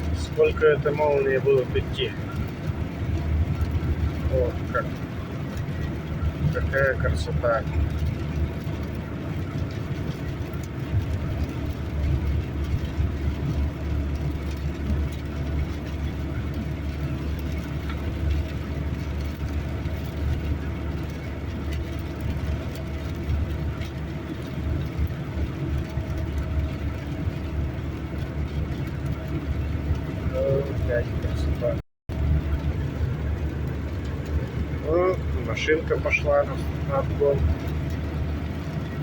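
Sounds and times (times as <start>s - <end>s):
car road and engine noise: 0.0s - 39.0s.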